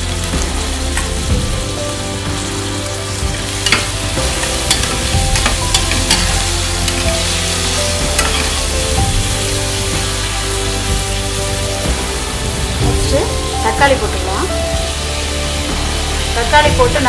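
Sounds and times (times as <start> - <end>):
sizzling in hot oil: 0.0 - 17.0.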